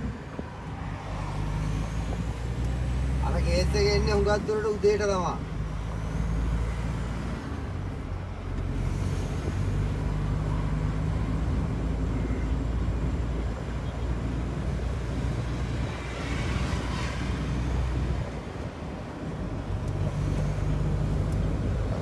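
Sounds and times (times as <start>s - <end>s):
truck engine hum in cab: 0.0s - 22.0s.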